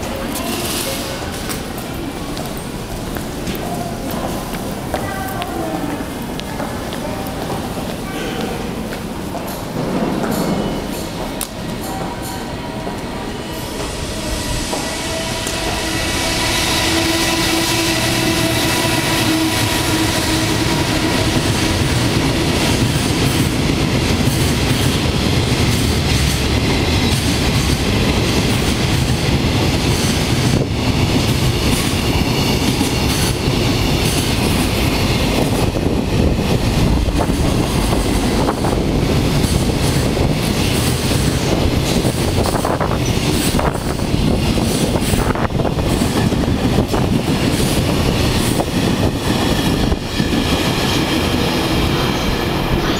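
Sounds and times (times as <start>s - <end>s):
train rumbling on rails: 0.0s - 52.9s.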